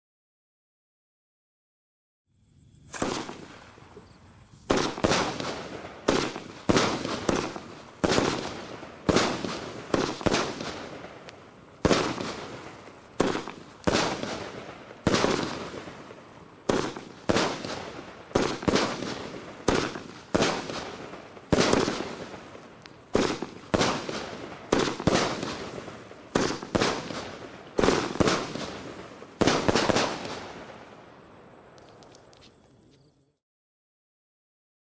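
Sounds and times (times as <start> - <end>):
firework bangs with hissing tails: 2.6 - 32.5.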